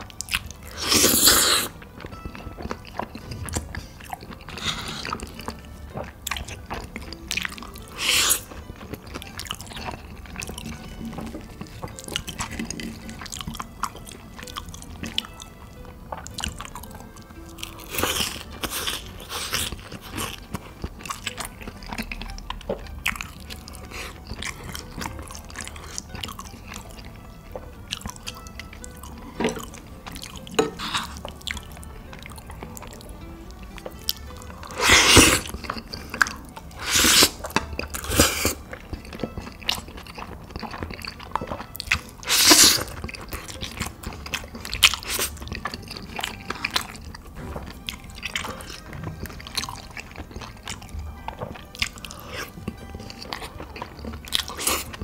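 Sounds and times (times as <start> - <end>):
background music: 0.0 - 55.0
person chewing and crunching: 0.0 - 55.0.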